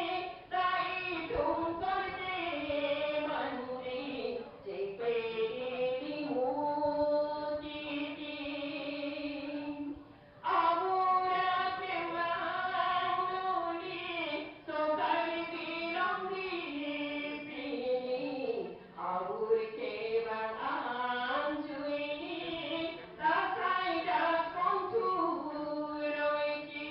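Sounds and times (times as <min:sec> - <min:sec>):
voices singing a prayer chant: 0:00.0 - 0:26.9.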